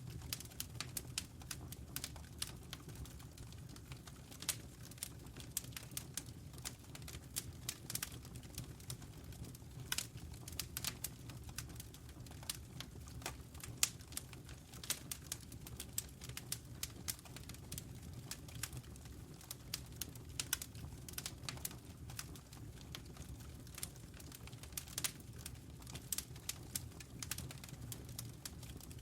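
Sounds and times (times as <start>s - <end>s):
fire popping and snapping: 0.0s - 29.0s
low rumble of burning logs: 0.0s - 29.0s.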